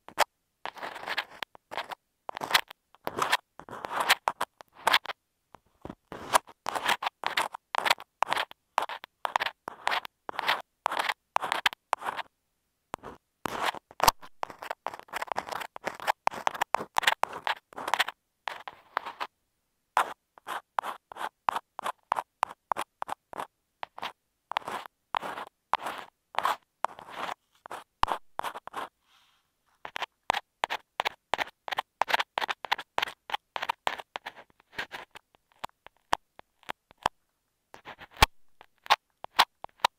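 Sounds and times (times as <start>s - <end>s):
ear pick scratching on microphone: 0.0s - 5.2s, 5.8s - 12.3s, 13.0s - 19.3s, 20.0s - 39.9s.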